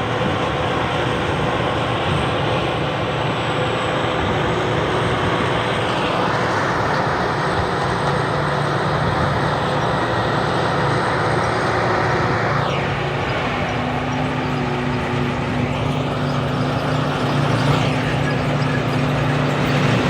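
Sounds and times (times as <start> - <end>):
combine harvester engine under load: 0.0 - 20.0
falling whine: 0.0 - 20.0.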